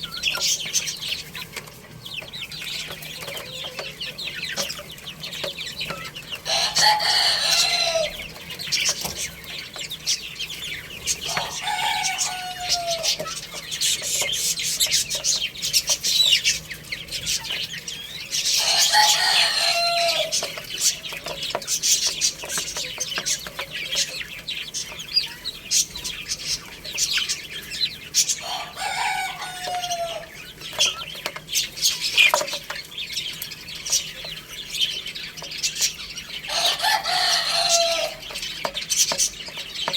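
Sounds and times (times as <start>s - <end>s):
chickens clucking: 0.0s - 39.9s
chicks cheeping: 0.0s - 39.9s
roosters crowing: 0.0s - 39.9s.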